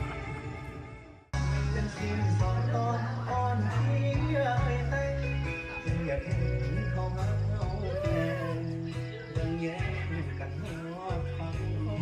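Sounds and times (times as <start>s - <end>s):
music with held bass notes: 1.3s - 12.0s.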